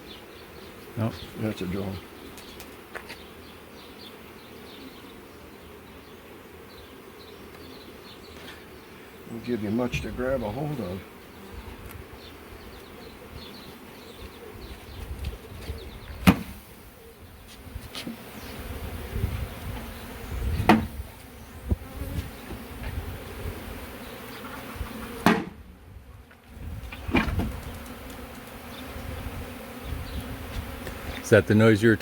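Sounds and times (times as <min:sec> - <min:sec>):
honeybees buzzing: 0:00.0 - 0:32.0.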